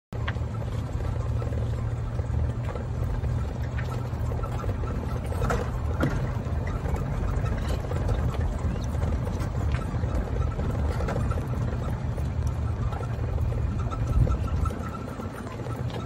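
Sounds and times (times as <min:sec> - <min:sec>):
golf cart rumbling: 0:00.1 - 0:16.0.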